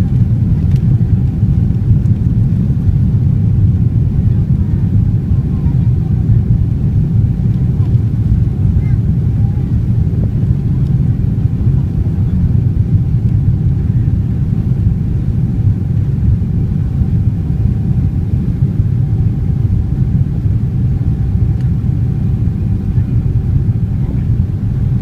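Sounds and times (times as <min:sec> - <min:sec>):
airplane cabin engine rumble: 0:00.0 - 0:25.0
faint steady hum: 0:00.0 - 0:25.0.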